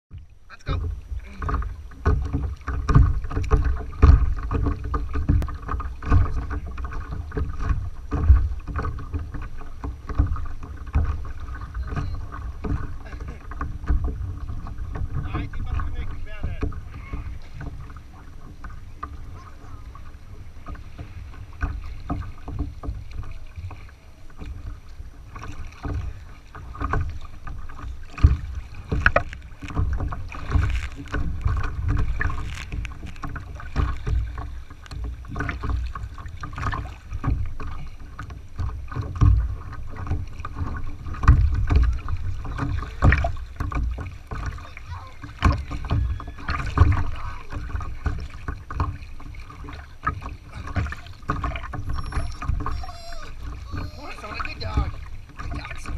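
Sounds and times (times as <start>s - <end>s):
water lapping against paddleboard: 0.1s - 55.9s.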